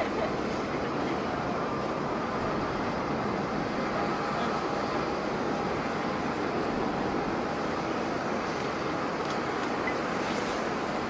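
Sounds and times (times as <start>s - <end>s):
jet engine rushing: 0.0s - 11.0s.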